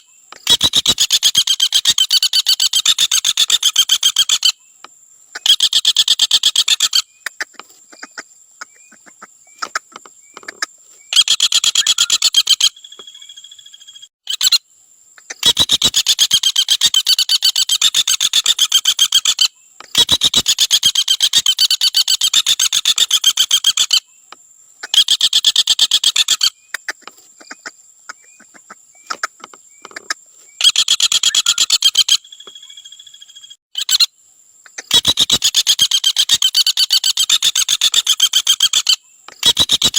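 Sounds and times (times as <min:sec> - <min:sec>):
woodpecker rattling call: 0:00.0 - 0:14.6, 0:15.2 - 0:39.9.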